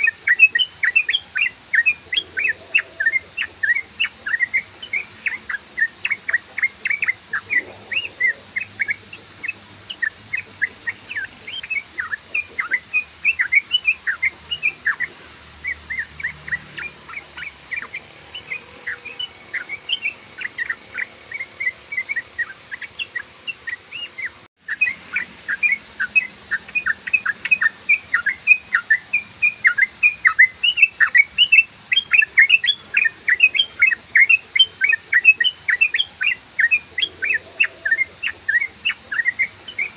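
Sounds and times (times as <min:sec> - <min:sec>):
bird singing rapid chirpy notes: 0:00.0 - 0:39.9.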